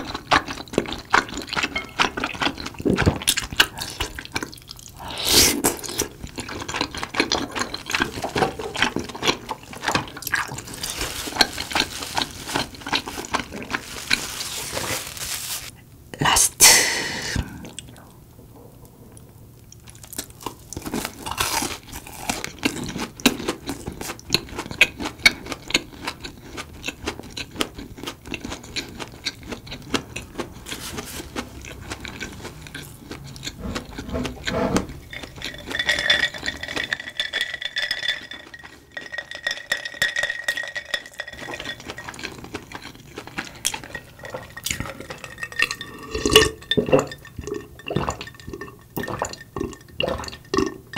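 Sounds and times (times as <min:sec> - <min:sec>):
chewing crunchy snack: 0:00.0 - 0:15.7, 0:19.7 - 0:39.7, 0:41.3 - 0:50.8.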